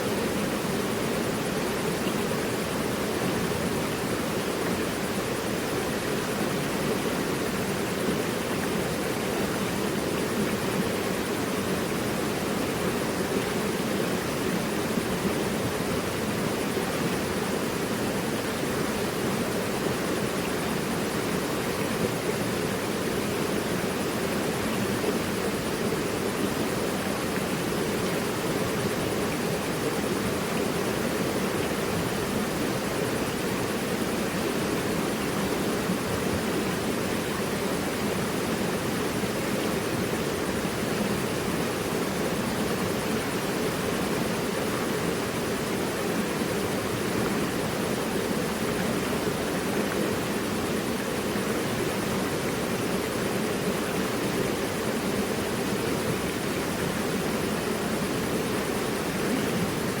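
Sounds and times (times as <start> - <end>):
river rushing over rocks: 0.0 - 60.0.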